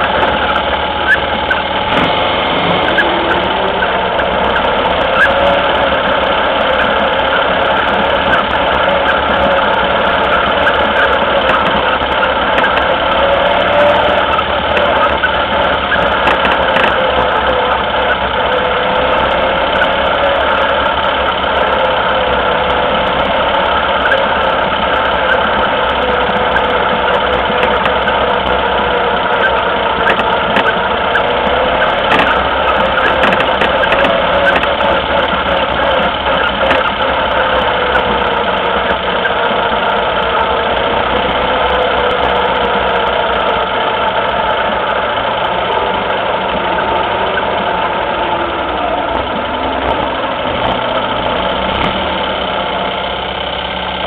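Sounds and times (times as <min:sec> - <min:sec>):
buggy engine idling: 0:00.0 - 0:54.0.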